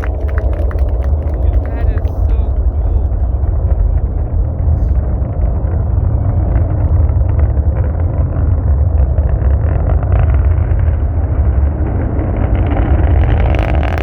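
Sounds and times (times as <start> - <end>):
distant rocket engine rumble: 0.0 - 14.0.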